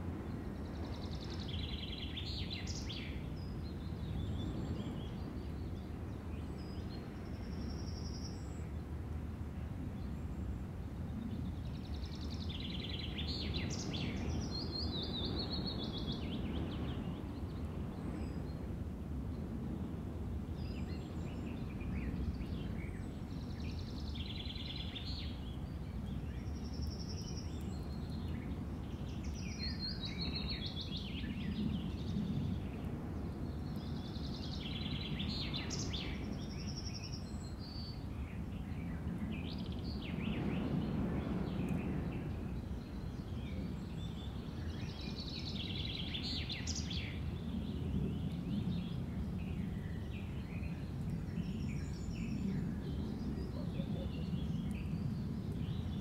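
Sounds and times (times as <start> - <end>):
songbird chirping: 0.1 - 8.8, 11.1 - 18.7, 20.6 - 56.0.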